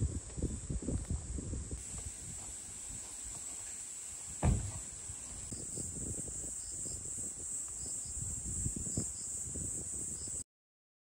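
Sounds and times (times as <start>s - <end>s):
high-pitched insect chorus: 0.0s - 10.4s.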